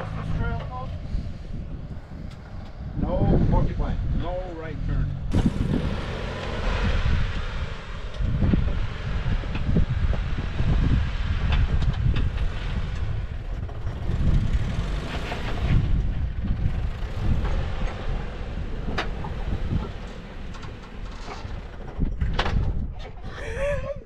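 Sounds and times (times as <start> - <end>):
vehicle engine low rumble: 0.0 - 24.0.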